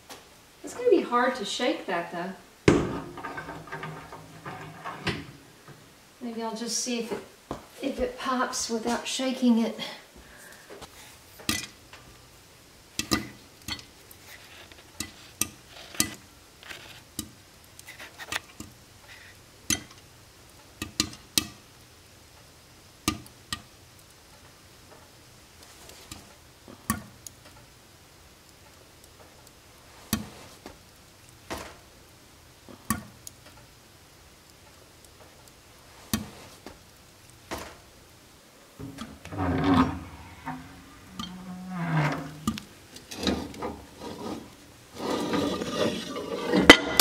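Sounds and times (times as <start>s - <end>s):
popcorn popping in skillet: 2.4s - 5.9s, 10.5s - 39.4s, 41.0s - 47.0s.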